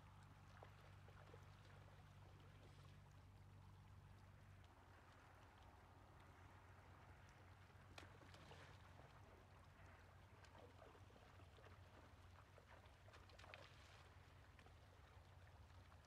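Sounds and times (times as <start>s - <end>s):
shallow river trickling: 0.0s - 16.0s.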